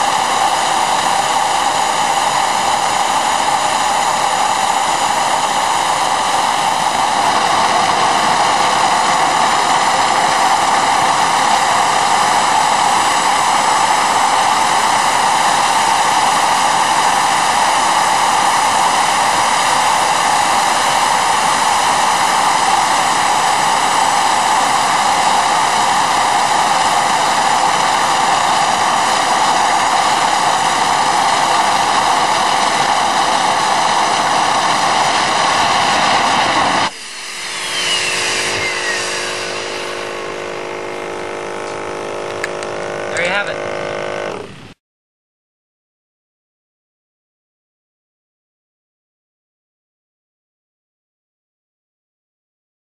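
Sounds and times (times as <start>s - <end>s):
high turbine whine: 0.0s - 44.8s
jet engine roar: 0.0s - 44.8s.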